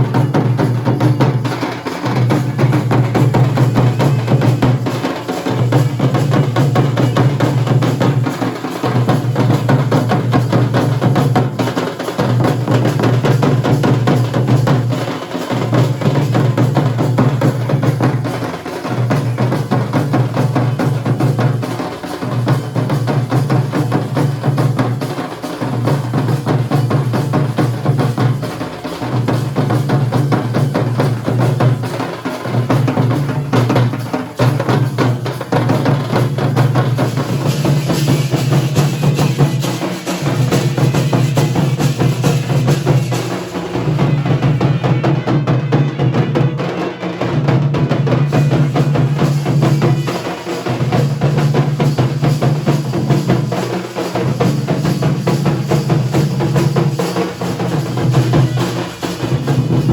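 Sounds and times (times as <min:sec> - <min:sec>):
drums beaten in fast rhythm: 0:00.0 - 0:59.9.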